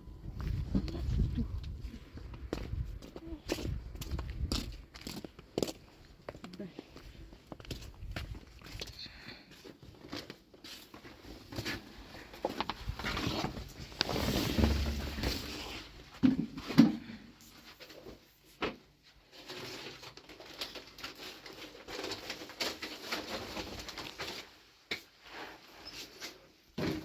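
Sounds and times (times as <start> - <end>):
rustling and handling noises: 0.3 - 26.9.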